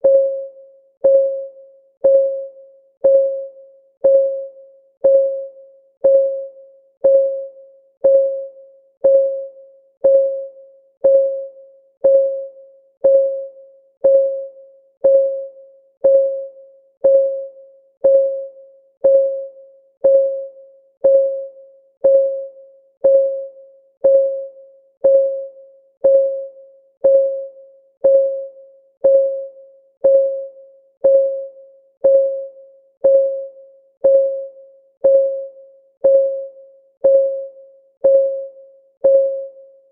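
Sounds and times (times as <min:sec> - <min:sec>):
timer clock ticking: 0:01.0 - 0:01.4, 0:02.0 - 0:39.6.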